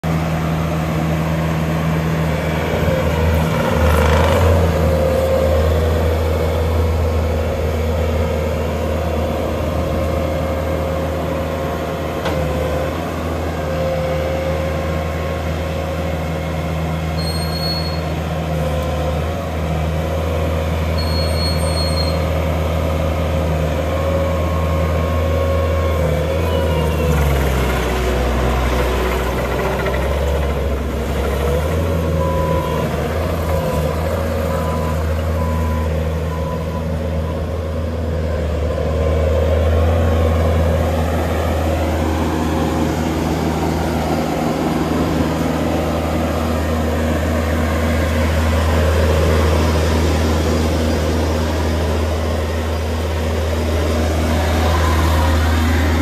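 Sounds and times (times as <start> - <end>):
thin engine whine: 0.0 - 56.0
track loader diesel engine drone: 0.0 - 56.0.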